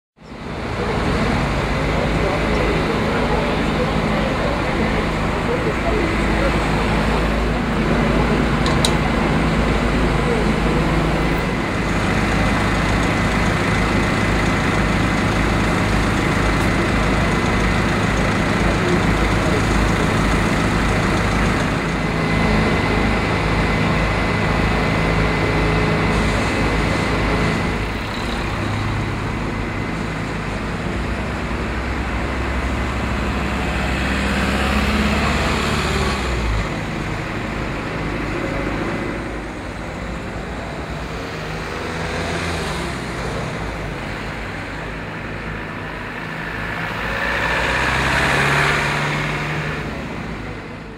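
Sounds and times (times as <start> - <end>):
heavy diesel engine droning: 0.2 - 50.9
road traffic passing: 0.2 - 50.9.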